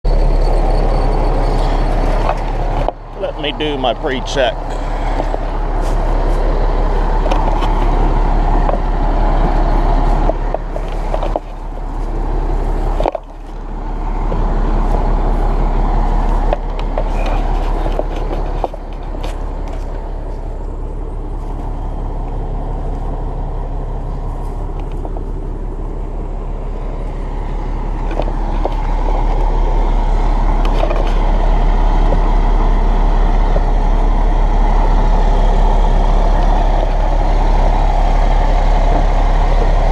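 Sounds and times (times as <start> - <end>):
heavy engine humming: 0.0 - 39.9.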